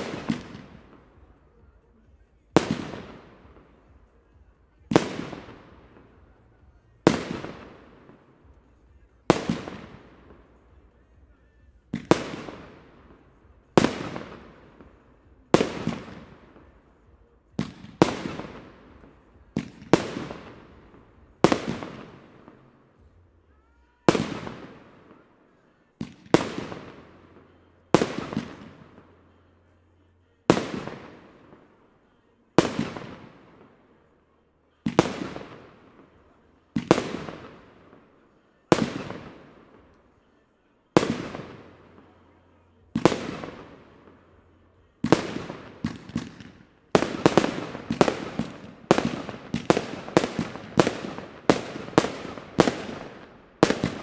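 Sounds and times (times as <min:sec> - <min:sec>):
firework bangs: 0:00.0 - 0:23.2, 0:23.9 - 0:29.4, 0:32.6 - 0:34.0, 0:34.8 - 0:54.0.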